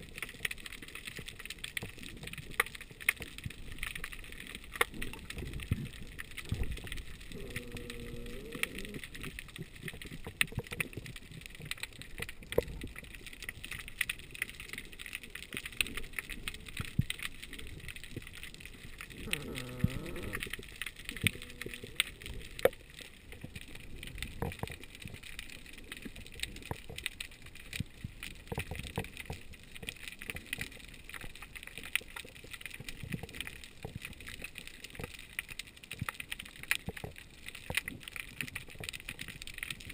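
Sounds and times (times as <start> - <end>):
underwater crackle of clicks: 0.0 - 39.9.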